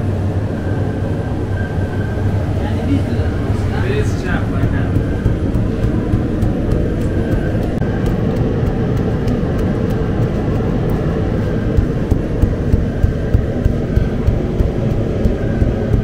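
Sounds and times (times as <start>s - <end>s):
machinery rumbling: 0.0s - 16.0s.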